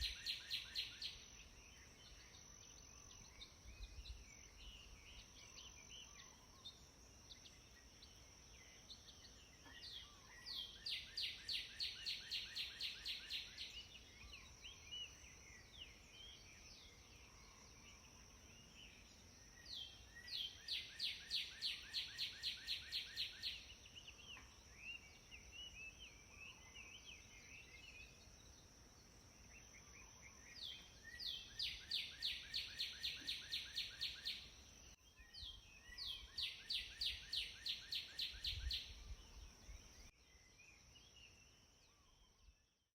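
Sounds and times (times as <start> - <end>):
songbird rapid trill: 0.0 - 42.3
soft bird chirps: 0.0 - 42.9.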